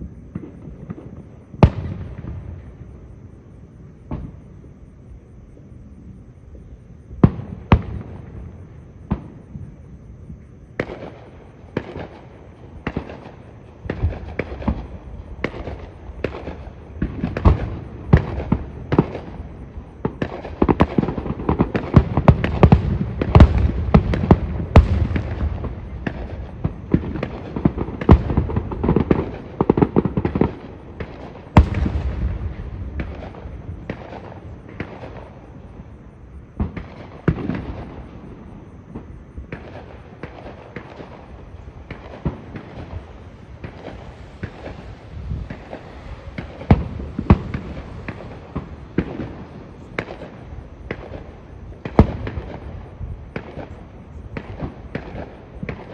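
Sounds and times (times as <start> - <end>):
fireworks booming and crackling: 0.0 - 55.9.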